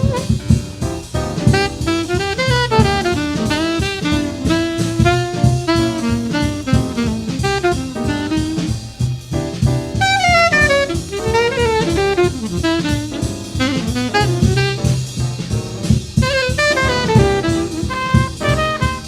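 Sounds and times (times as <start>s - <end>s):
fast alto saxophone line: 0.0s - 19.0s
jazz piano bass and drums: 0.0s - 19.0s.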